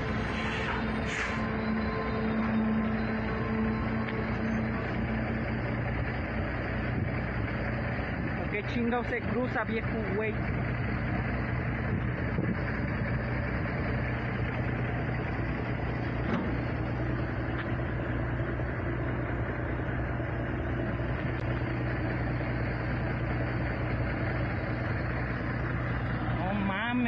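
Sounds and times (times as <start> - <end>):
engine and road noise in cab: 0.0 - 27.0.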